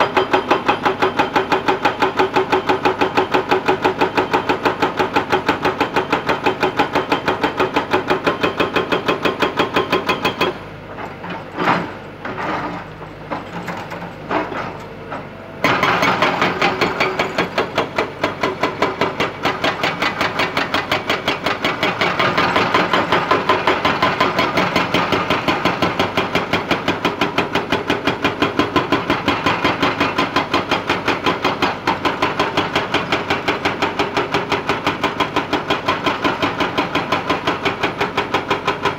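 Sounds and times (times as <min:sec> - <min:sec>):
excavator engine running: 0:00.0 - 0:38.9
hydraulic breaker hammering rock: 0:00.0 - 0:38.9.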